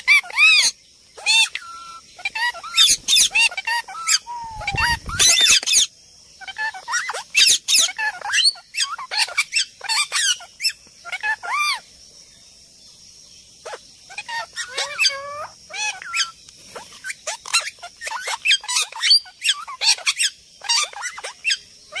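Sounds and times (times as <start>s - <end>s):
birds squawking and chirping: 0.0s - 11.9s, 13.6s - 22.0s.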